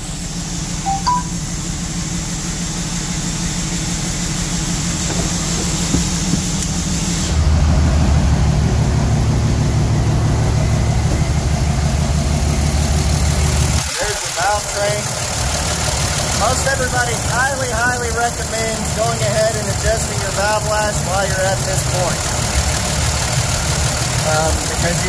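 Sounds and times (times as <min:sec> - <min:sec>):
diesel engine idling roughly: 0:00.0 - 0:25.0.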